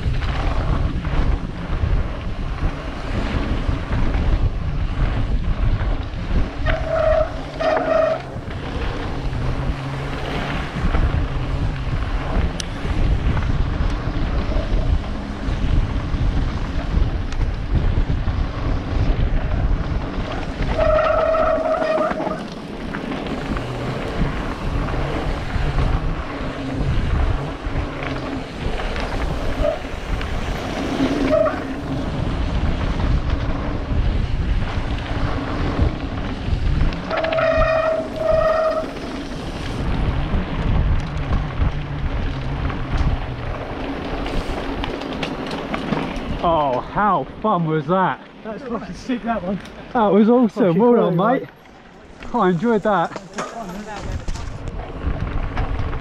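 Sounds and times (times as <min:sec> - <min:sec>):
wind buffeting microphone: 0:00.0 - 0:47.6, 0:48.4 - 0:56.0
bike tyres and frame rattling: 0:00.0 - 0:56.0.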